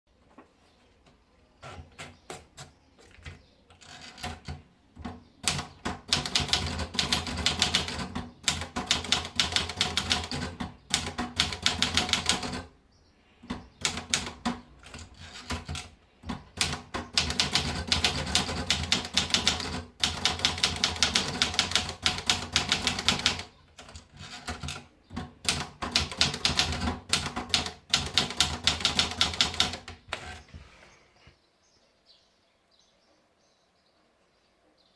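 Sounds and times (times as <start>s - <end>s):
manual typewriter typing: 1.6s - 12.7s, 13.4s - 30.5s.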